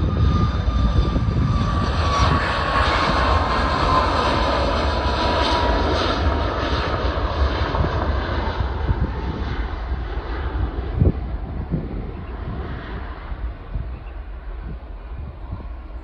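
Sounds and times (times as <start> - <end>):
faint jet engine whine: 0.0 - 16.0
jet engine roar: 0.0 - 16.0.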